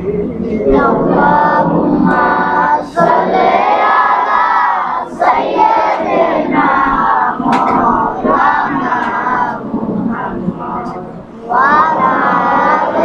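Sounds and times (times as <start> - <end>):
group singing devotional song: 0.0 - 13.0.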